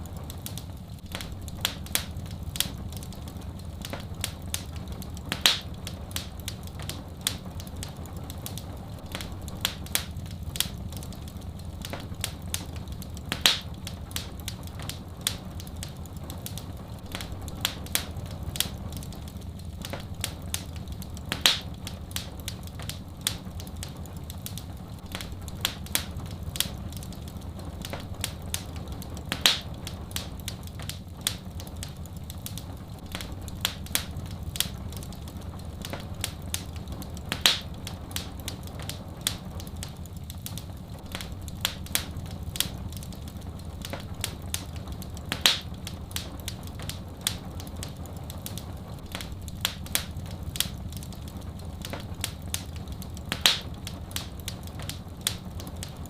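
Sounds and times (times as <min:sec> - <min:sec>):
fire rumbling: 0:00.0 - 0:56.0
loud fire pops: 0:00.0 - 0:56.0
wood fire crackling: 0:00.0 - 0:56.0.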